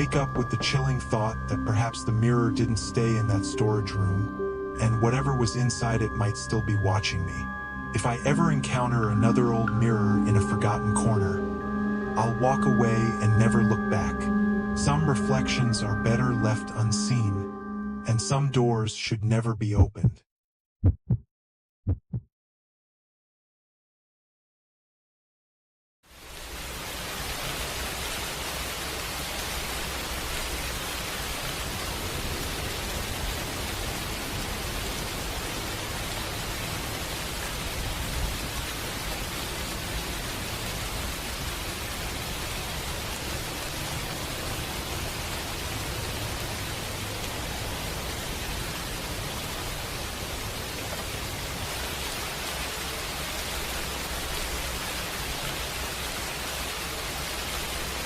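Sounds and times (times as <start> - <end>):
steady rain hiss: 0.0 - 17.3, 26.1 - 58.0.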